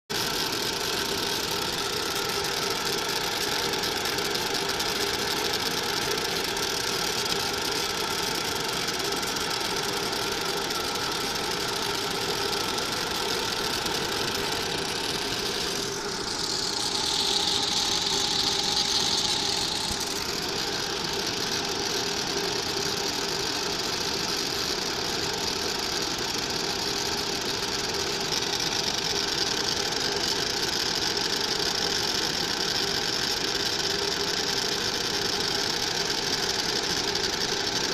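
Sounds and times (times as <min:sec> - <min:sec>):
laser cutter humming and hissing: 0:00.1 - 0:37.9.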